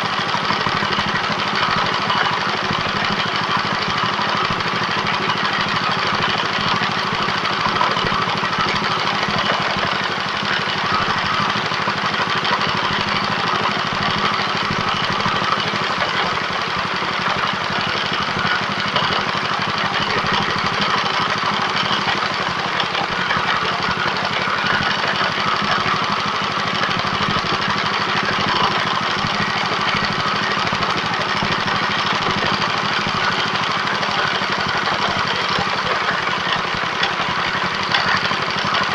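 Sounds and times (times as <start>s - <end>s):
pellet machine running: 0.0s - 38.9s.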